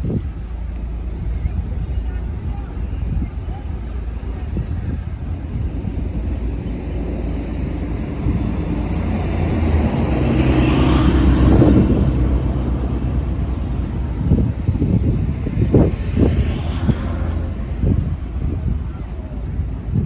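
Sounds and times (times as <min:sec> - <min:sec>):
vehicle engine passing: 0:01.2 - 0:20.0.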